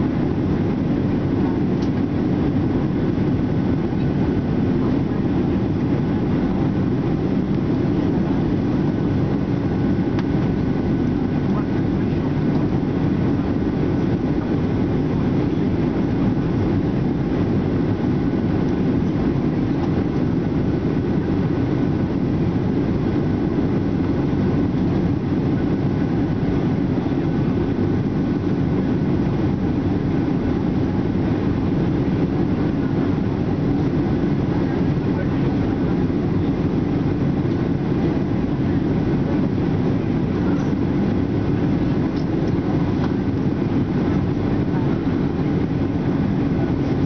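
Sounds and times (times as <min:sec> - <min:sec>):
airplane cabin engine hum: 0:00.0 - 0:47.0
faint steady whine: 0:00.0 - 0:47.0.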